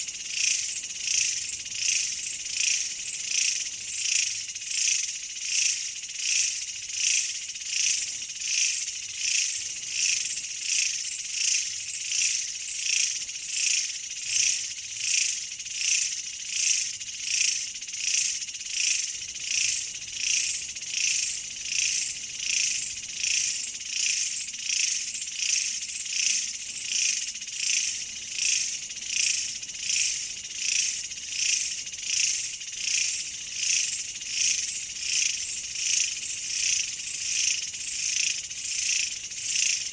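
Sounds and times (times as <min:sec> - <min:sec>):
insects shrilling in pulses: 0:00.0 - 0:39.9.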